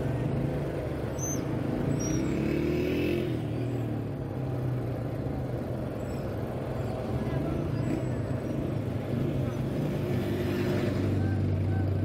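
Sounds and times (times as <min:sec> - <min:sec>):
cars and motorcycles passing: 0:00.0 - 0:12.0.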